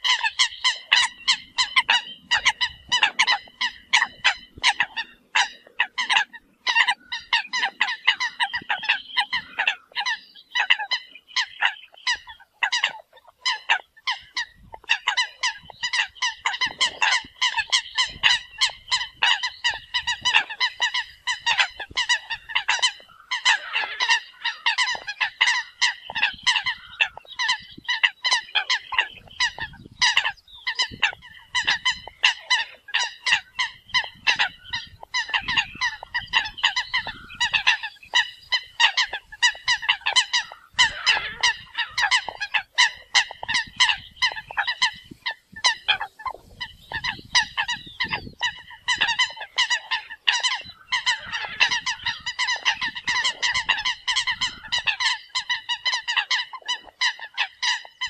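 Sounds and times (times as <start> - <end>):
coots calling: 0.0 - 58.0.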